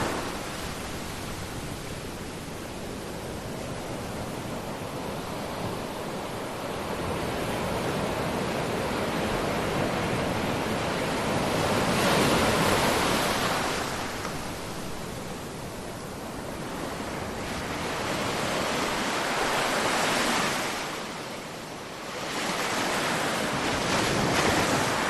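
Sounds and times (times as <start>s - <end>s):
ocean waves breaking on shore: 0.0s - 25.0s.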